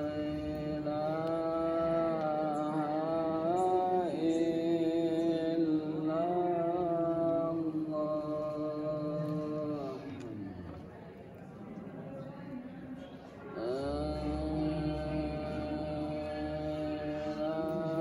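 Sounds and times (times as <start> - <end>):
person chanting prayers: 0.0 - 11.2, 13.2 - 18.0.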